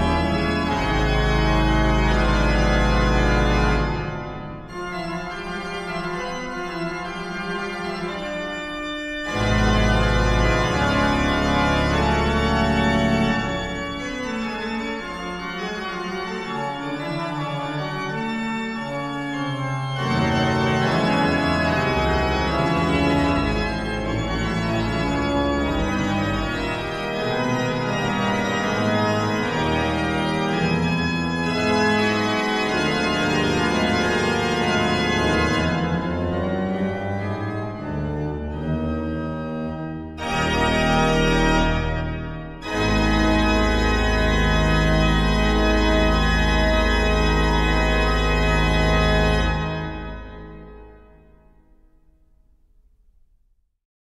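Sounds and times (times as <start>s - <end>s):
deep organ pedal bass: 0.0s - 51.1s
pipe organ chords: 0.0s - 51.9s.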